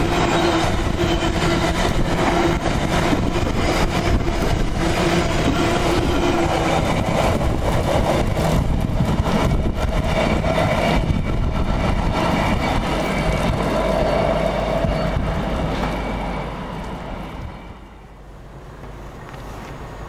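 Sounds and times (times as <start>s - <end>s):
freight train wagons passing: 0.0s - 20.0s.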